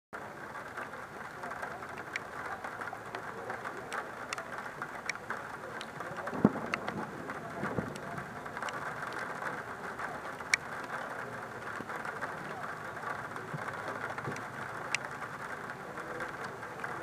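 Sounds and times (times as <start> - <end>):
heavy rain falling: 0.2 - 17.0
raindrops ticking on camera: 0.2 - 17.0.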